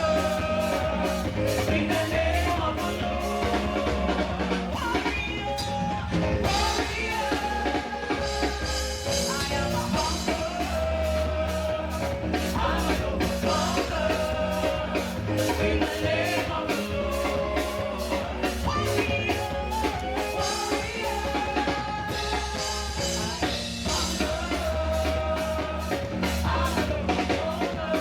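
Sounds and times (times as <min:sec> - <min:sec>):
band playing: 0:00.0 - 0:28.0
group singing worship music: 0:00.0 - 0:28.0
steady drum beat: 0:00.0 - 0:28.0.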